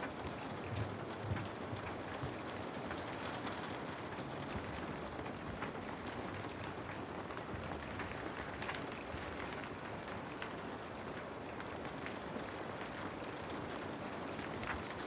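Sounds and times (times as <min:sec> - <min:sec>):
rain drops tapping a surface: 0:00.0 - 0:15.0
steady rain hiss: 0:00.0 - 0:15.0.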